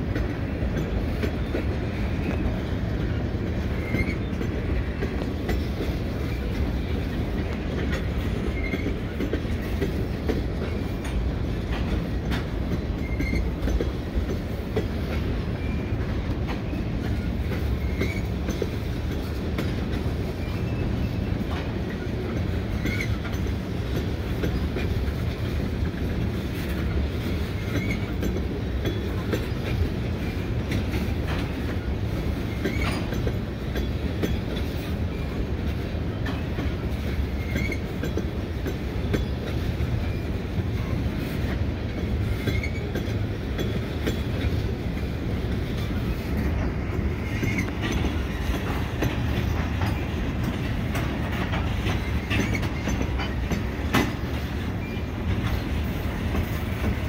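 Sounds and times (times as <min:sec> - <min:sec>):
clickety-clack over rail joints: 0:00.0 - 0:57.0
train wheels rumbling on rails: 0:00.0 - 0:57.0
high wheel squeaks: 0:01.4 - 0:14.1, 0:14.7 - 0:25.0, 0:26.6 - 0:35.6, 0:36.2 - 0:38.2, 0:38.9 - 0:44.6, 0:45.6 - 0:57.0.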